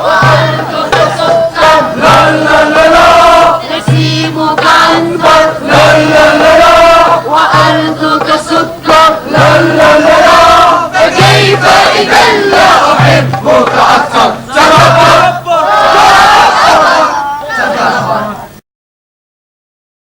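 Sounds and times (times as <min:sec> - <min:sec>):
group chanting in unison: 0:00.0 - 0:18.6.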